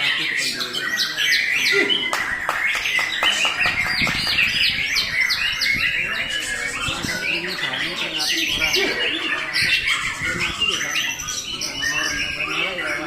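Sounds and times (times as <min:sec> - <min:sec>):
bird singing chirps and whistles: 0:00.0 - 0:13.0.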